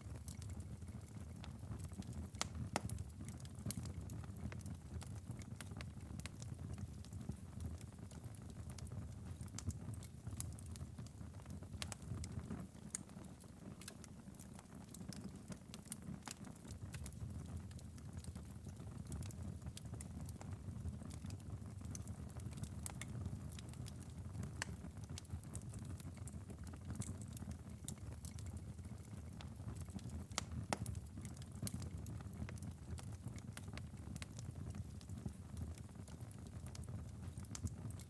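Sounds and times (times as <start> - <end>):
fire pops and snaps: 0.1 - 38.0
low rumble of flames: 0.1 - 38.0.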